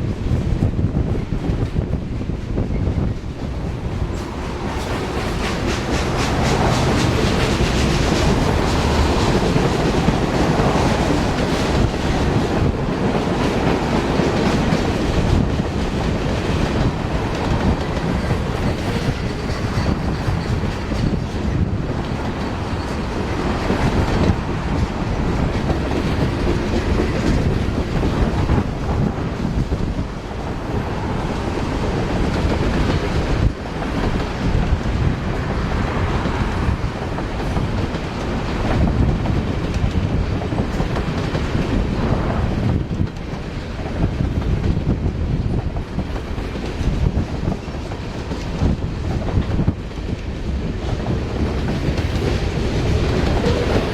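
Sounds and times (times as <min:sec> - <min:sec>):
freight train rumbling past: 0:00.0 - 0:53.9
wheels clacking over rail joints: 0:03.2 - 0:53.9.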